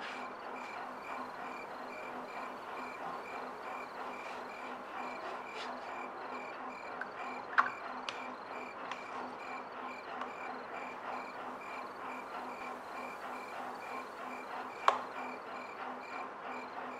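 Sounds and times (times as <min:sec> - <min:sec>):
cricket chirping: 0:00.2 - 0:16.8.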